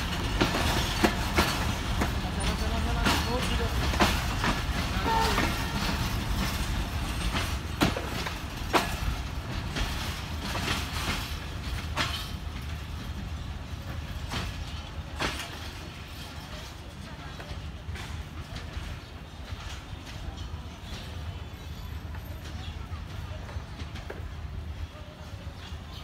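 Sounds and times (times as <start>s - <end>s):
wheel clacks over rail joints: 0.0s - 21.2s
train coaches rumbling: 0.0s - 26.0s.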